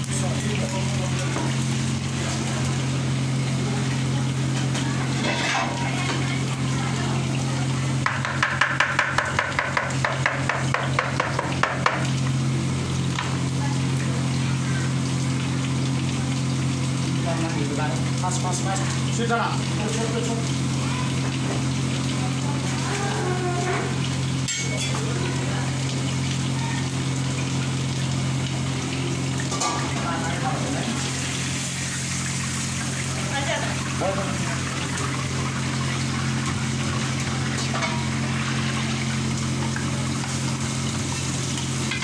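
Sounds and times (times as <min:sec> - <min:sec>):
food frying in oil: 0:00.0 - 0:42.0
gas burners hissing: 0:00.0 - 0:42.0.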